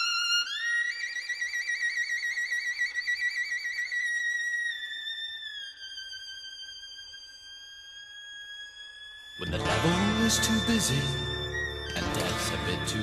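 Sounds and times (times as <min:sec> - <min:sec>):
violin with wide vibrato: 0:00.0 - 0:13.0.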